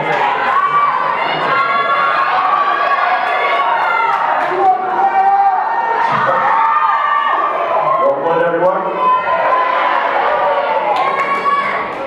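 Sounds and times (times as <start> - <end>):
students cheering and shouting: 0.0 - 12.0.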